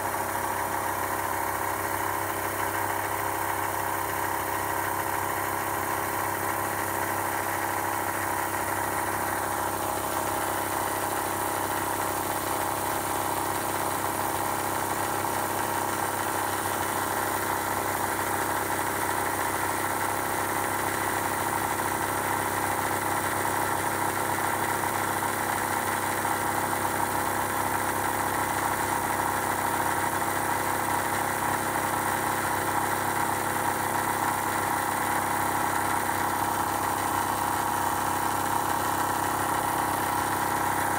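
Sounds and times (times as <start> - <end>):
electric air compressor running: 0.0 - 40.9.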